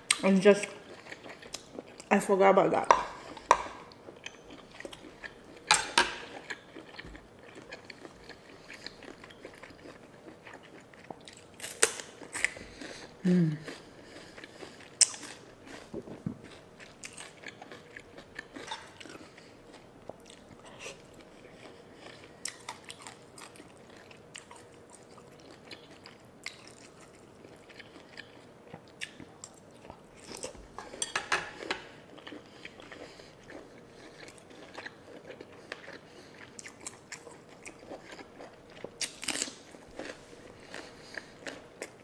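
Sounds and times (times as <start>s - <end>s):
person chewing crunchy food: 0.0s - 2.1s, 2.9s - 42.0s.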